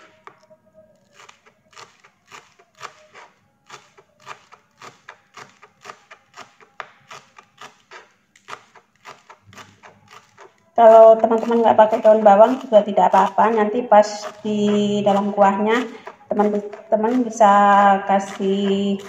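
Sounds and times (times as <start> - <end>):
knife chopping on cutting board: 1.1 - 19.0.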